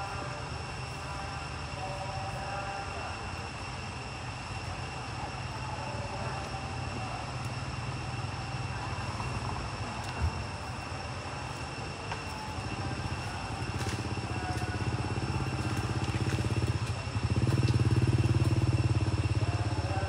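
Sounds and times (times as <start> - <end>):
high whine: 0.0 - 20.0
small engine running: 0.0 - 20.0.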